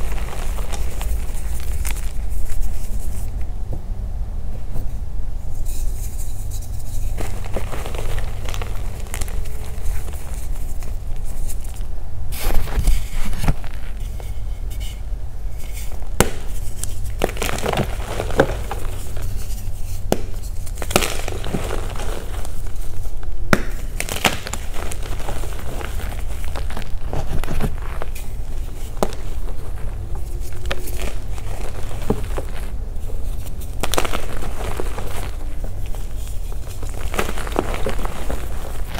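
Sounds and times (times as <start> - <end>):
chalk crunching: 0.0 - 3.4, 5.6 - 38.9.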